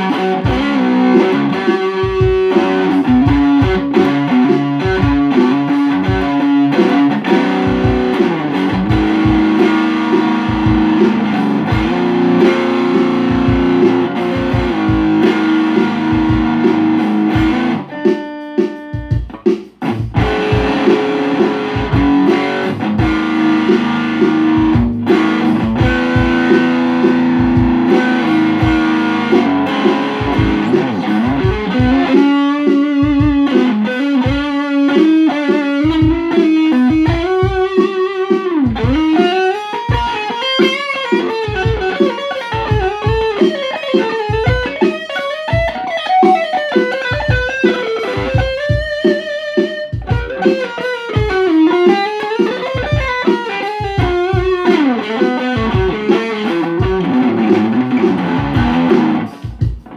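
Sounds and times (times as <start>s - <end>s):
electric guitar playing: 0.0s - 59.9s
steady low beat: 0.0s - 59.9s.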